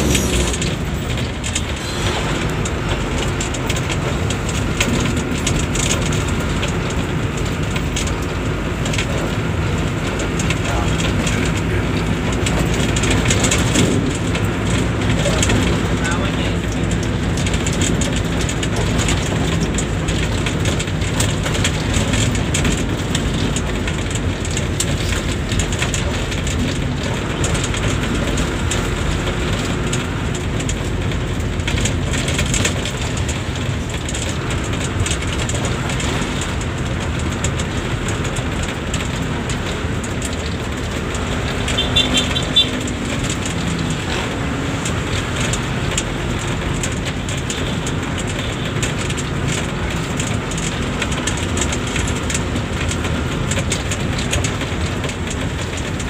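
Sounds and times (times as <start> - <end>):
bus engine and road noise: 0.0 - 56.0
small rattles and clicks: 0.0 - 56.0.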